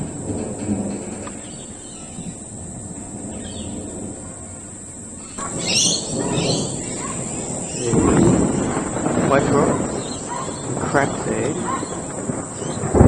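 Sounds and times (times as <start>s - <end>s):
distant thunder rumble: 0.0s - 13.0s
bird chirping: 1.3s - 13.0s.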